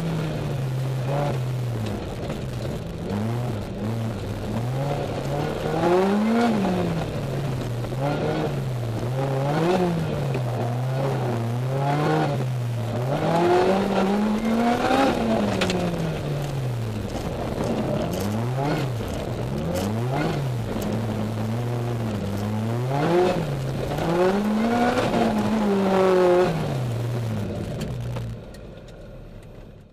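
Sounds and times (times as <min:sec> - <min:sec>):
car engine revving: 0:00.0 - 0:28.6.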